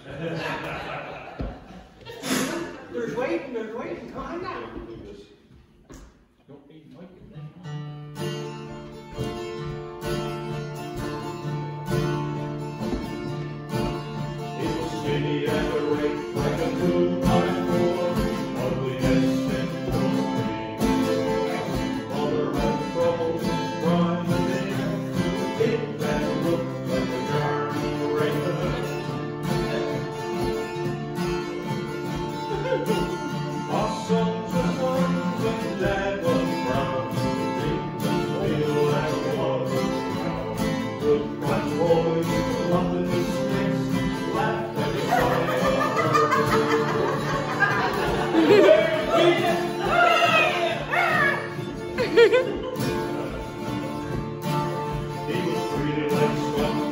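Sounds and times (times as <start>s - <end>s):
acoustic guitars strummed: 7.6s - 56.9s.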